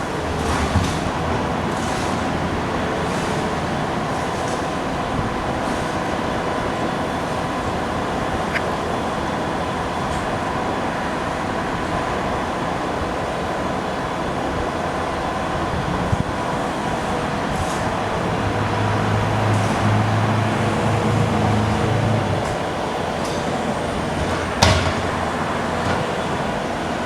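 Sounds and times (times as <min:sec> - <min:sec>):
heavy machinery engines: 0:00.0 - 0:27.0.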